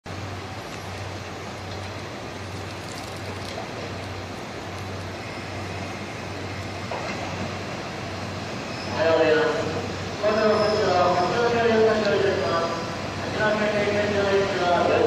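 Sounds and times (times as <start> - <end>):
diesel railcar drone: 0.0 - 15.0.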